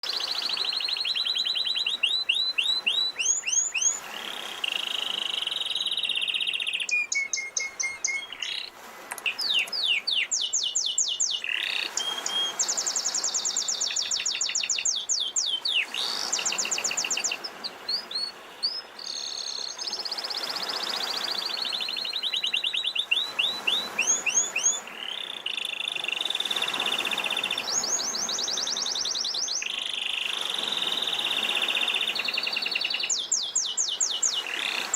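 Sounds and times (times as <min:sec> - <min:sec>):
canary singing trills: 0:00.0 - 0:34.9
sea waves washing: 0:01.9 - 0:19.1, 0:23.0 - 0:34.9.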